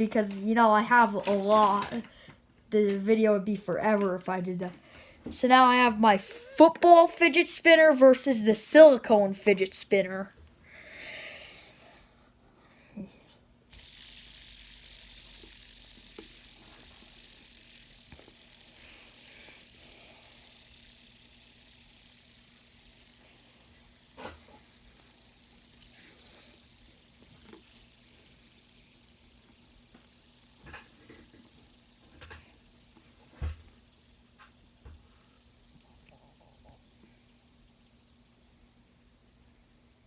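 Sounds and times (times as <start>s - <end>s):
fidget spinners whirring: 0.0s - 10.7s, 13.7s - 40.0s.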